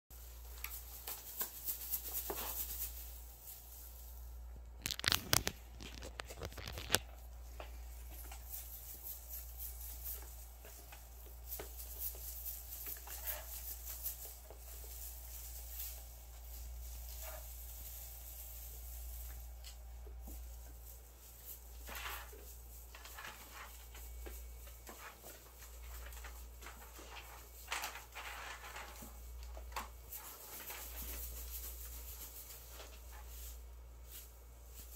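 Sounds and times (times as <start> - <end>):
plastic cat toy crackling: 0.2 - 34.9.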